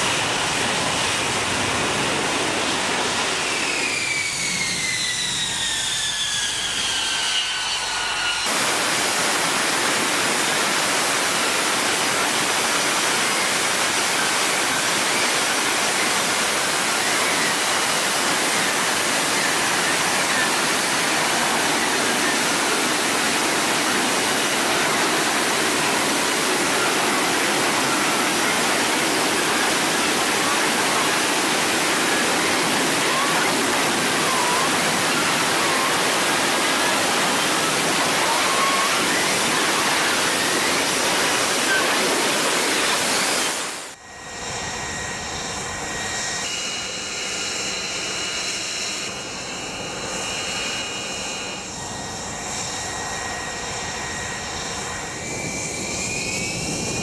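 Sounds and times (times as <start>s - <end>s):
jet engine whining down: 0.0s - 57.0s
jet hovering roar: 0.0s - 57.0s.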